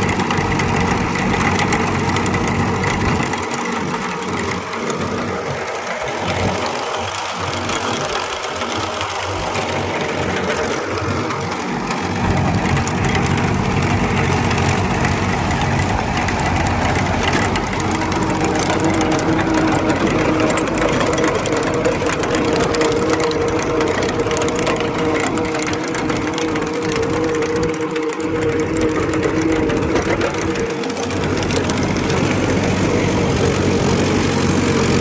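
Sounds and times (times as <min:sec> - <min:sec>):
steady whine: 0:00.0 - 0:35.0
tractor diesel engine: 0:00.0 - 0:35.0.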